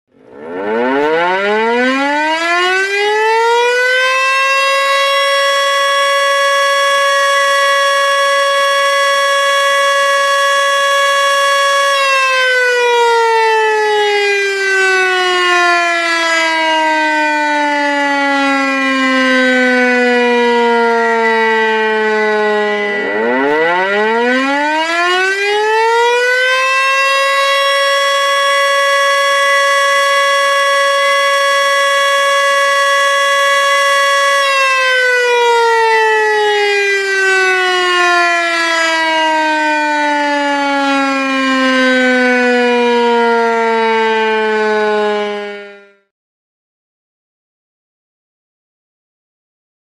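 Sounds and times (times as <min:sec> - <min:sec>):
warning siren wailing: 0:00.1 - 0:46.1.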